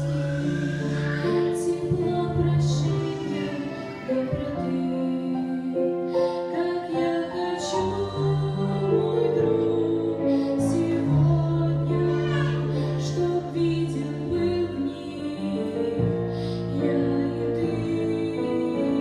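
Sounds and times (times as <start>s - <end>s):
woman singing church song: 0.0s - 19.0s.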